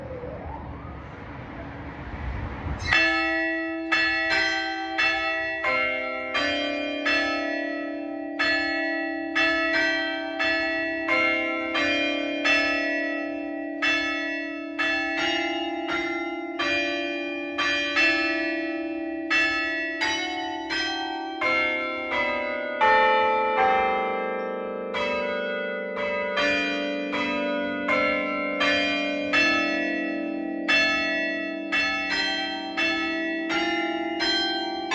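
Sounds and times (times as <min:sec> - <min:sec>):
outdoor noise: 0:00.0 - 0:34.9
church bells playing a tune: 0:02.8 - 0:34.9.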